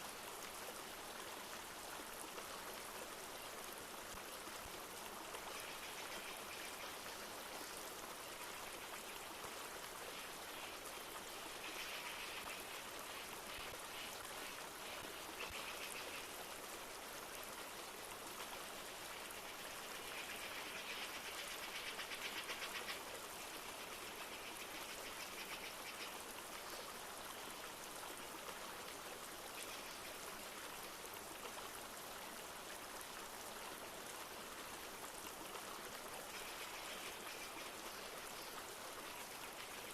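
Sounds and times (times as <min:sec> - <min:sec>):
light rain falling: 0:00.0 - 0:39.9
river flowing: 0:00.0 - 0:39.9.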